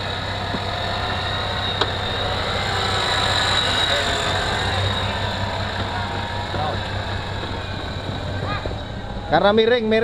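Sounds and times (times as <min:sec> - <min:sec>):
engine running with high whine: 0:00.0 - 0:10.0.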